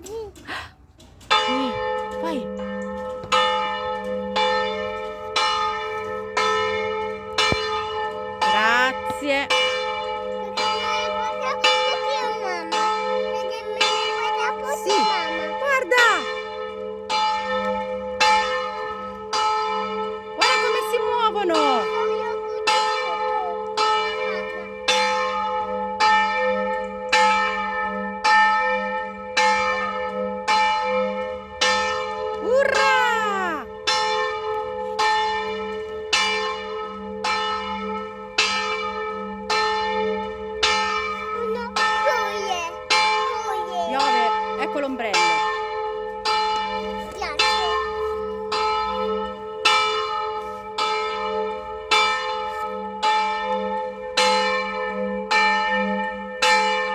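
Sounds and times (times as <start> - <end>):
church bells ringing: 1.0 - 56.9.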